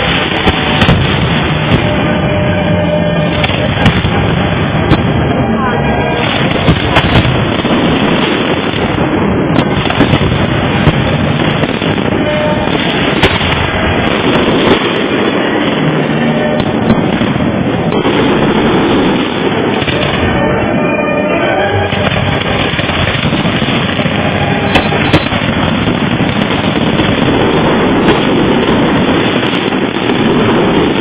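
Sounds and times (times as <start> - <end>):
fireworks rumbling: 0.0 - 31.0
loud fireworks bangs: 0.0 - 31.0.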